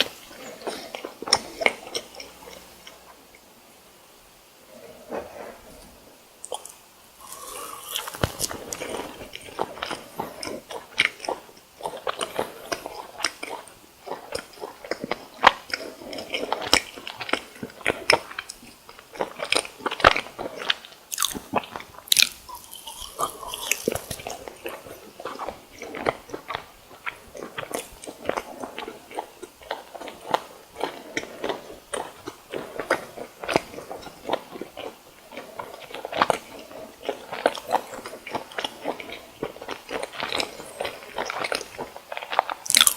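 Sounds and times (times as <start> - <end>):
crunchy chewing of fried food: 0.0 - 3.6, 4.7 - 42.9.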